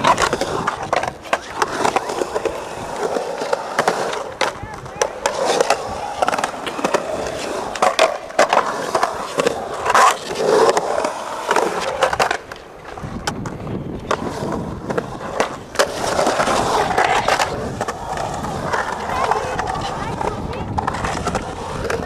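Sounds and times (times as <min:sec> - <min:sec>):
skateboard trucks knocking: 0:00.0 - 0:22.0
skateboard wheels rolling on concrete: 0:00.0 - 0:22.0.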